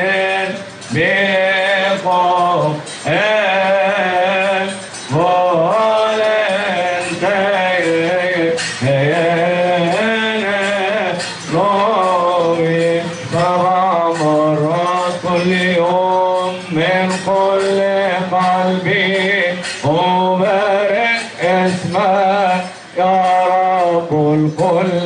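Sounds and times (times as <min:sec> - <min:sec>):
men chanting a hymn: 0:00.0 - 0:25.0.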